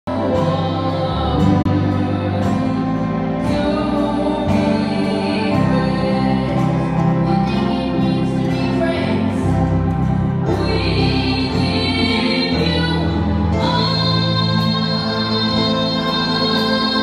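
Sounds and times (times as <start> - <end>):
organ chords: 0.1 - 17.0
woman singing into a microphone: 0.1 - 17.0.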